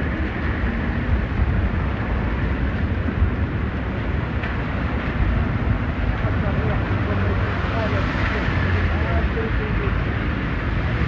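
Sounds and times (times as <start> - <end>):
low traffic rumble: 0.0 - 11.0
wind buffeting microphone: 0.0 - 11.0.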